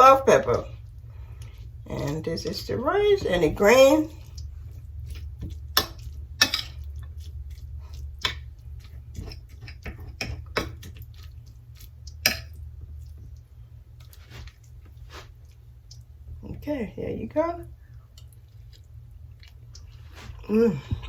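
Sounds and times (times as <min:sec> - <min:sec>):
steady low hum: 0:00.0 - 0:21.0
soft chewing: 0:00.7 - 0:02.2, 0:04.0 - 0:16.4, 0:17.6 - 0:21.0.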